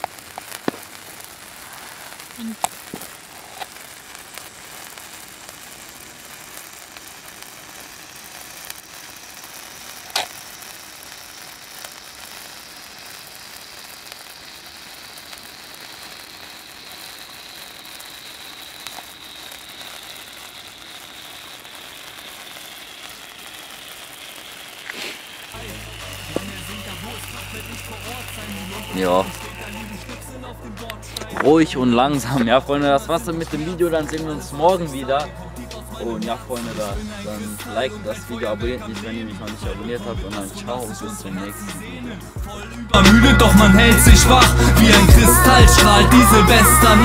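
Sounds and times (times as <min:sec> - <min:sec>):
faint high whine: 0:00.0 - 0:33.8, 0:36.1 - 0:47.0
sharp crack: 0:00.0 - 0:38.2
sparkler fountain hissing: 0:00.0 - 0:47.0.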